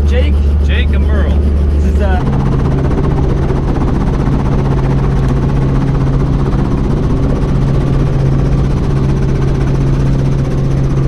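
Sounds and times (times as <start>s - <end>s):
helicopter engine and rotor hum: 0.0s - 11.0s.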